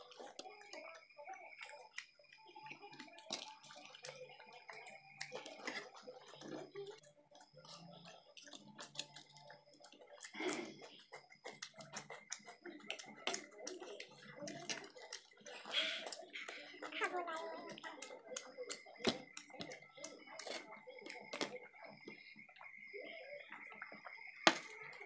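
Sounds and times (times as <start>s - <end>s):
wet chewing and smacking: 0.0s - 25.0s.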